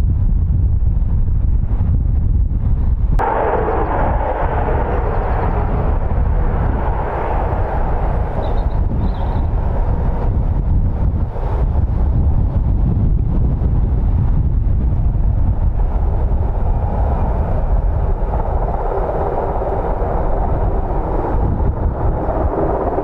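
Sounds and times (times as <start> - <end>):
helicopter engines and rotor rumble: 0.0 - 23.0.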